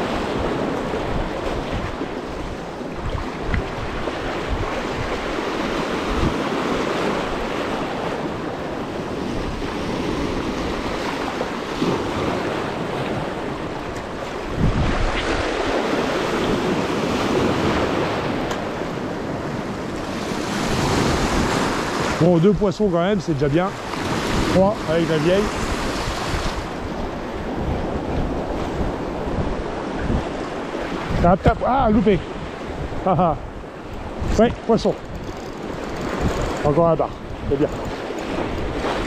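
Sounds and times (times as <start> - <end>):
surf washing over rocks: 0.0 - 39.0
wind buffeting microphone: 0.0 - 39.0.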